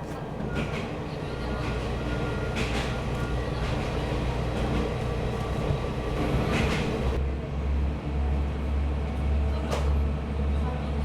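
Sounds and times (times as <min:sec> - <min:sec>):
railcar engine and track rumble: 0:00.0 - 0:11.0.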